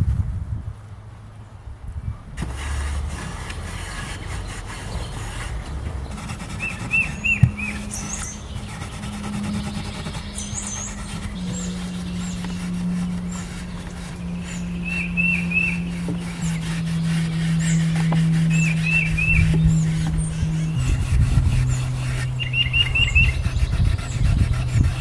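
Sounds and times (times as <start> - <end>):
steady low hum: 2.3 - 25.0
birds chirping: 2.5 - 25.0.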